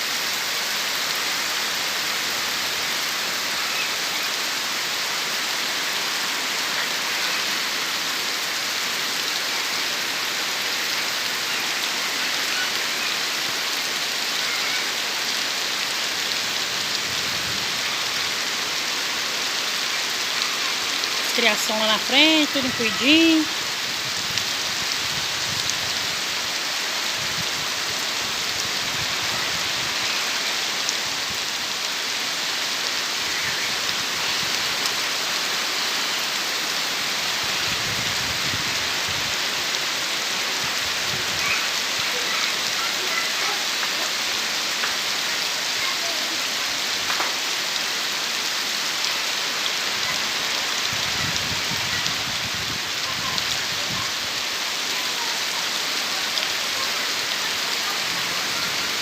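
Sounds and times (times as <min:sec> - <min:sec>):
heavy rain drumming: 0:00.0 - 0:59.0
low gusts of wind: 0:00.0 - 0:59.0.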